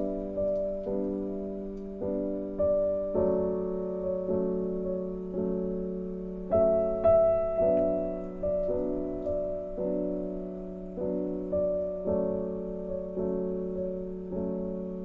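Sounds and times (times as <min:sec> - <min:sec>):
gentle solo piano: 0:00.0 - 0:15.0.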